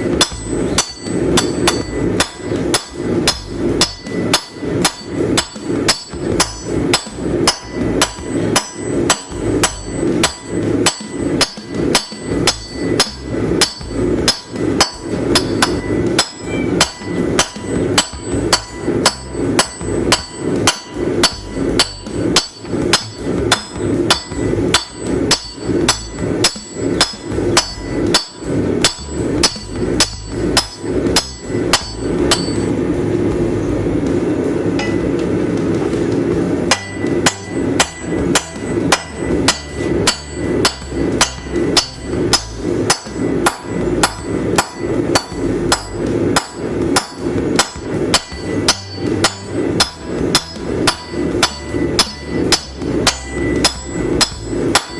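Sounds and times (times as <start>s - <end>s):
hammer ringing on anvil: 0.0s - 54.9s
steady rushing noise: 0.0s - 54.9s.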